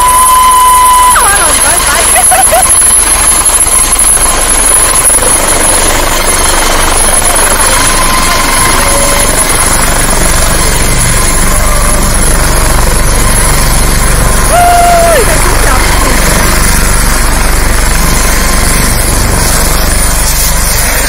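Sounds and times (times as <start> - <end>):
helicopter rotor and turbine: 0.0 - 21.0
thin high whine: 0.0 - 21.0.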